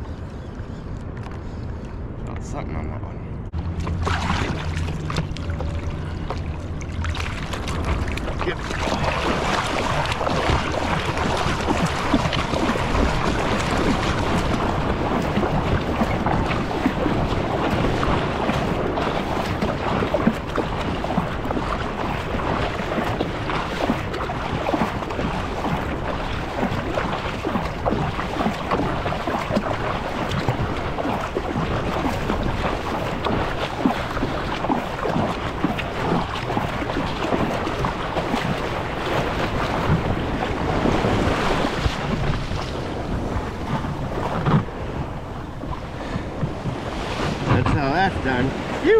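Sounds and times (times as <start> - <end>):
wind buffeting microphone: 0.0 - 48.9
seawater splashing and rushing: 3.5 - 48.9.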